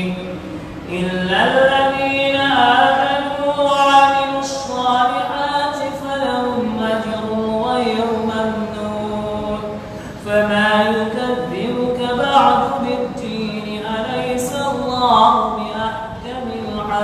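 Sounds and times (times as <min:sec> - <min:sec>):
man reciting in melodic chant: 0:00.0 - 0:17.0.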